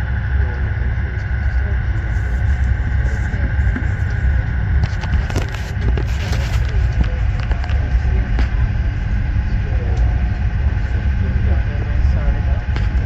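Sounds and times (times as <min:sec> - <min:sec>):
thin high whine: 0:00.0 - 0:13.0
train wheels rumbling on track: 0:00.0 - 0:13.0.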